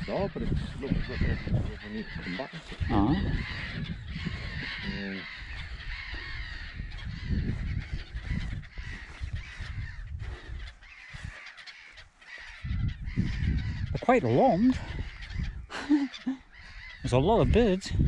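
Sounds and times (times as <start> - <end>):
gulls calling in alarm: 0.0 - 18.0.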